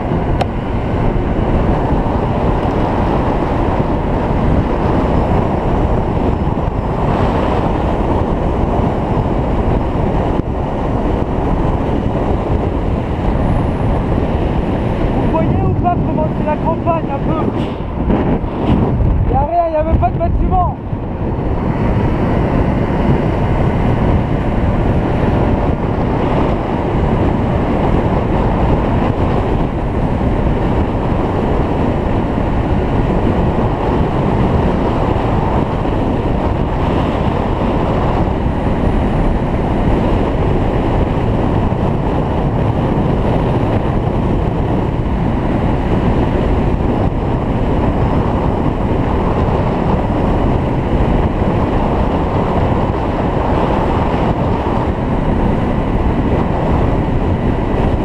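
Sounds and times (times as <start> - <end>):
wind rushing on microphone: 0.0 - 58.0.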